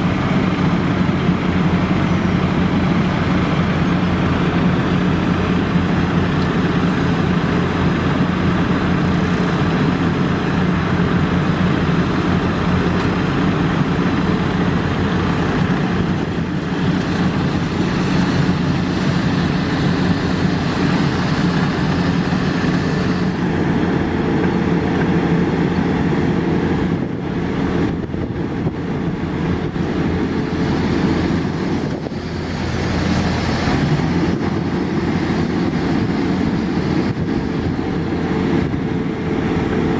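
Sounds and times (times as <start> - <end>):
diesel paving machinery drone: 0.0 - 39.9.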